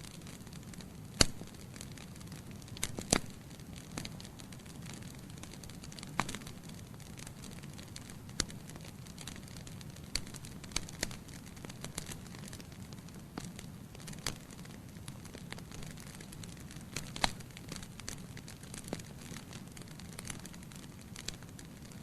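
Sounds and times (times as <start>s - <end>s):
burning logs crackling and popping: 0.0s - 22.0s
low rumble of flames: 0.0s - 22.0s.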